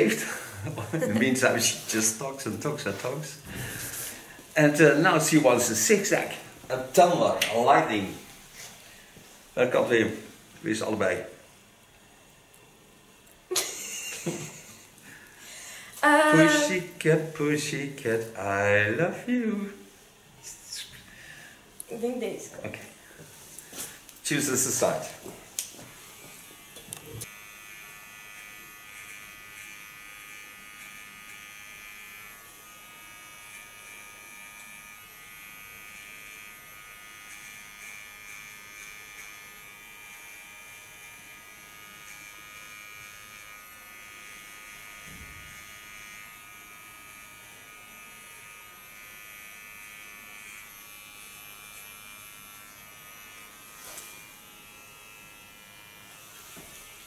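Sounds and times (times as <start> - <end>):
electric hair clipper buzzing: 0.0 - 8.7, 9.8 - 17.4, 23.6 - 57.0.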